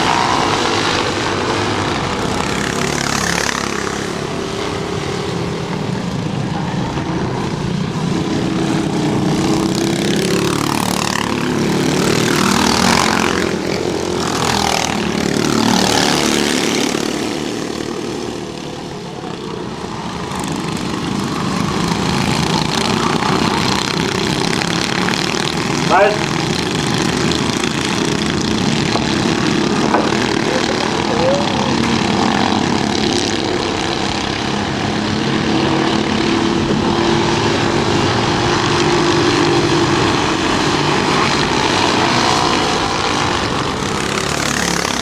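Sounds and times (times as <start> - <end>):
kart engines racing by: 0.0 - 45.0.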